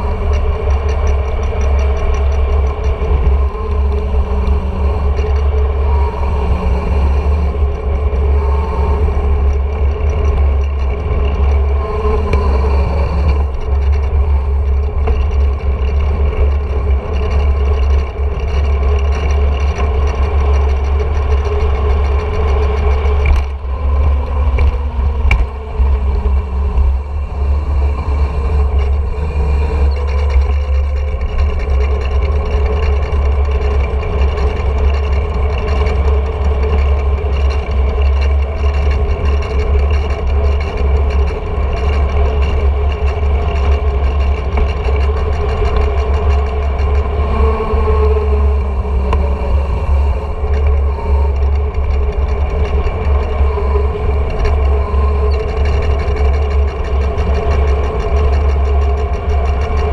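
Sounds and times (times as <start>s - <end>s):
heavy wind rumble on microphone: 0.0s - 59.9s.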